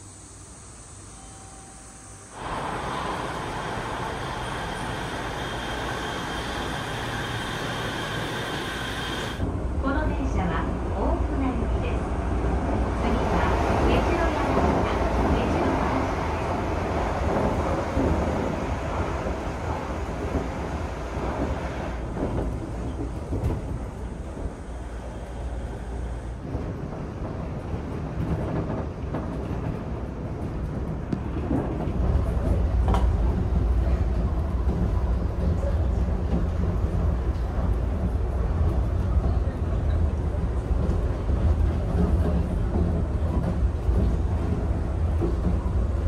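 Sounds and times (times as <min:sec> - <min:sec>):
monorail car rumbling in motion: 0:00.0 - 0:46.0.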